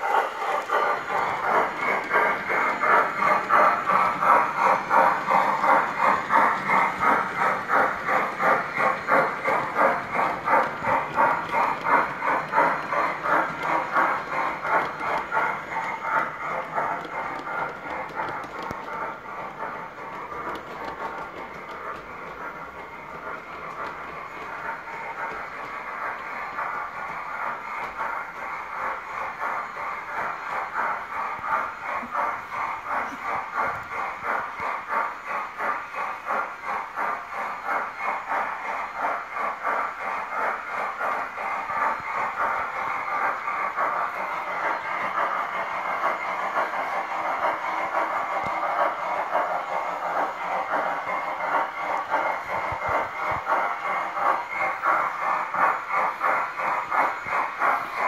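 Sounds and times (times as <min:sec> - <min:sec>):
model train wheels clattering: 0:00.0 - 0:58.0.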